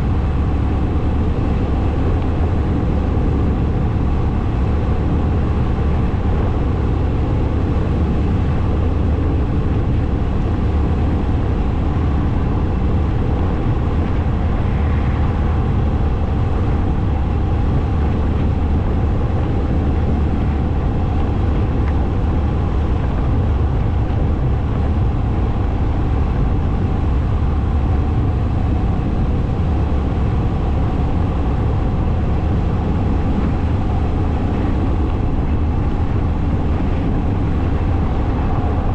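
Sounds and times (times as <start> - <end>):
motorcycle engine and road noise: 0.0 - 38.9
wind buffeting microphone: 0.0 - 38.9.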